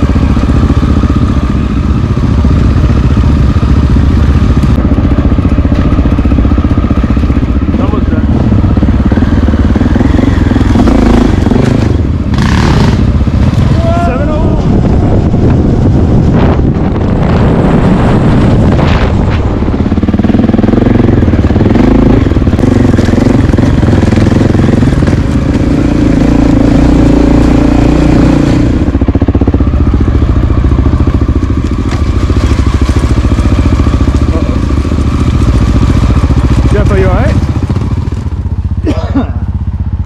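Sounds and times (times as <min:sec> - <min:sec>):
wind rumble on microphone: 0:00.0 - 0:38.2
motorcycle engine revving: 0:00.0 - 0:40.0.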